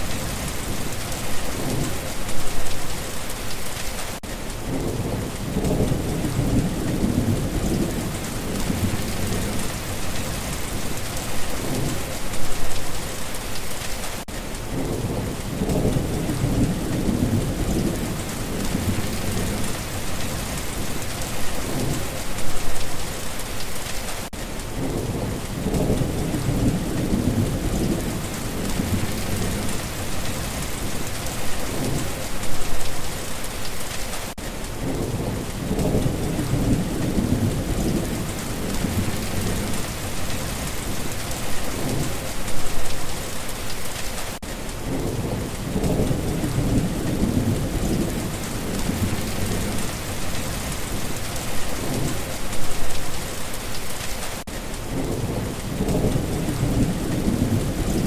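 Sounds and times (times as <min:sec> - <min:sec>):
thunder rumbles: 0:00.0 - 0:03.8, 0:04.5 - 0:13.2, 0:14.6 - 0:23.2, 0:24.7 - 0:33.1, 0:34.6 - 0:58.0
steady rain falling: 0:00.0 - 0:58.0.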